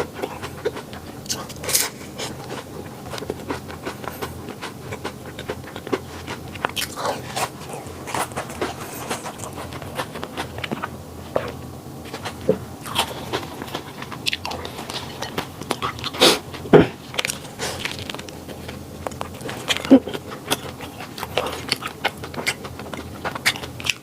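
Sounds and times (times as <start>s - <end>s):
dog chewing pastry: 0.0s - 24.0s.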